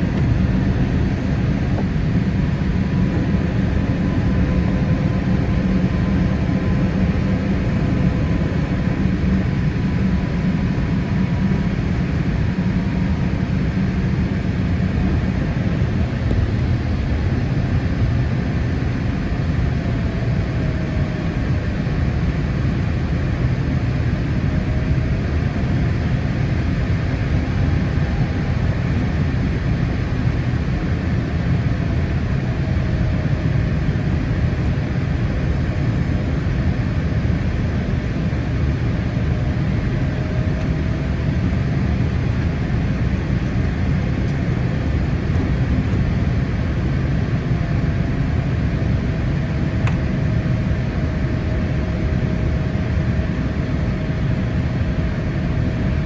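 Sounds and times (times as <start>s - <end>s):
low roar of engines and airflow: 0.0s - 56.0s.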